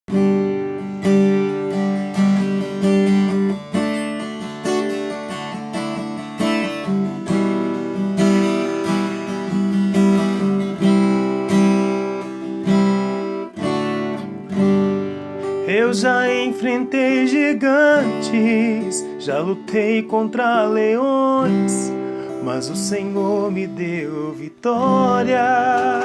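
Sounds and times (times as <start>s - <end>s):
acoustic guitar strummed chords: 0.1s - 26.0s.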